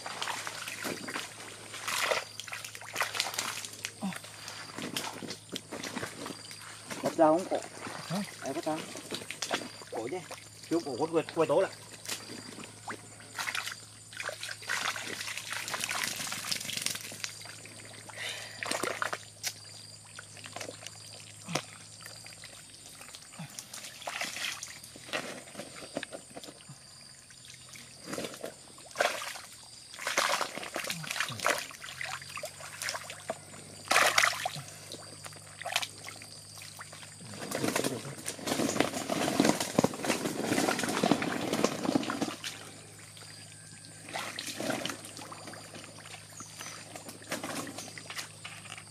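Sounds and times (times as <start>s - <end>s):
muddy water splashing: 0.0s - 48.8s.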